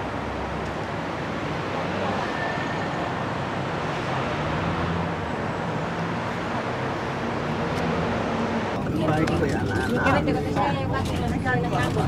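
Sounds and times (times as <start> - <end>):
coach engine hum and road noise: 0.0 - 12.0.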